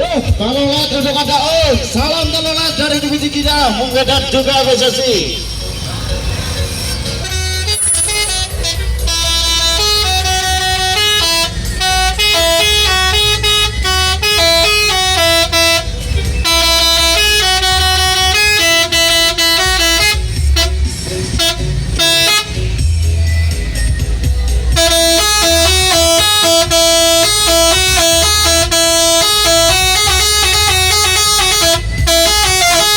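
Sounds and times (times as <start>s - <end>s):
loud music with heavy bass: 0.0s - 32.9s
multi-tone bus air horn melody: 0.0s - 32.9s.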